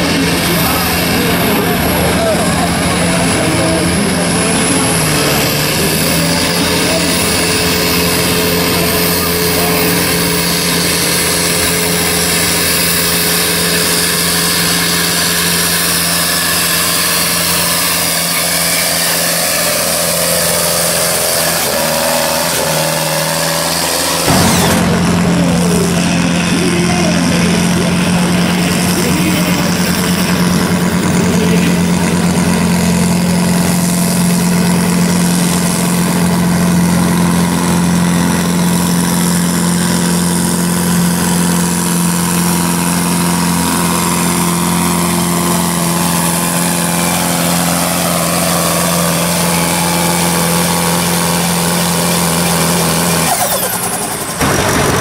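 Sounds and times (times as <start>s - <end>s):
diesel tractor engine running hard: 0.0s - 55.0s.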